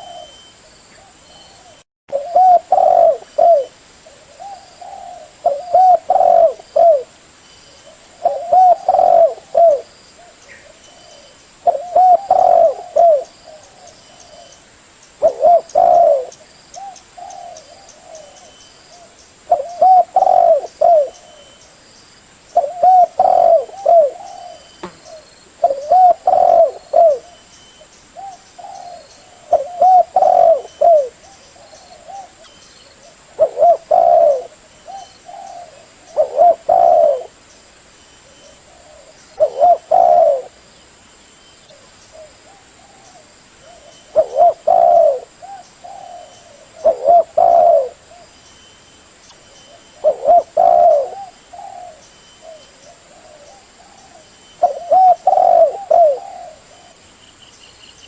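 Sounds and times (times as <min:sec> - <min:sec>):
dove cooing: 0:00.0 - 0:07.2, 0:07.9 - 0:14.6, 0:15.2 - 0:21.6, 0:22.6 - 0:27.5, 0:28.2 - 0:37.4, 0:38.2 - 0:40.6, 0:41.6 - 0:48.4, 0:49.7 - 0:57.0.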